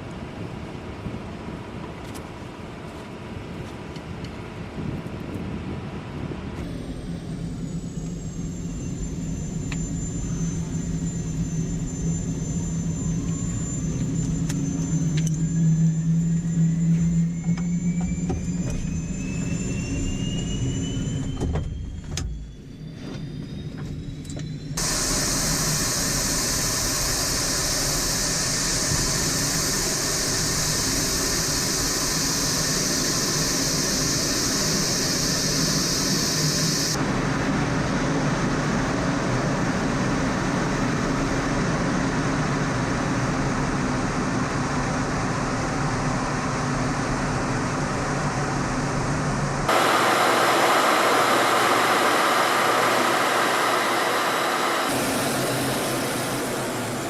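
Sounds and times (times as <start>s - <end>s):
jet engine roar: 0.0s - 57.0s
jet engine whine: 0.0s - 57.0s.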